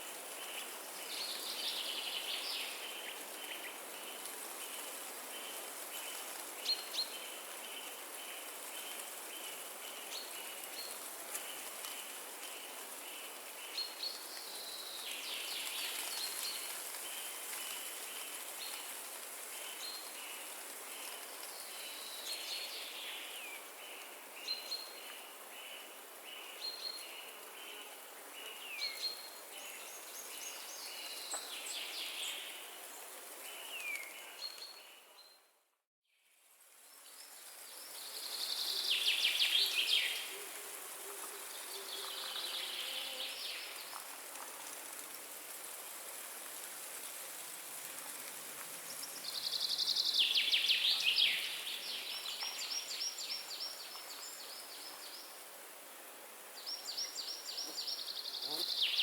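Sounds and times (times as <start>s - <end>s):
wind through trees: 0.0s - 59.0s.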